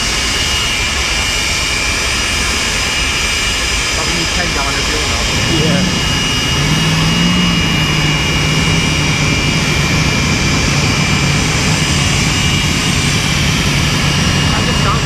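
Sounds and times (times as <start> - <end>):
turbine engine whine and rush: 0.0 - 15.0.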